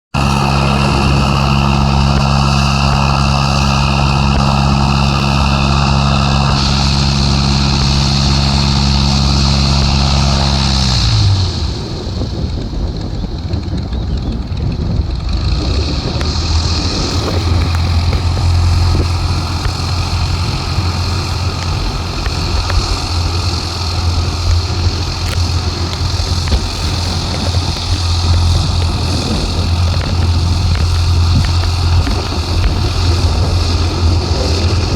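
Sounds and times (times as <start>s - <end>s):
microlight propeller engine droning: 0.0s - 34.9s.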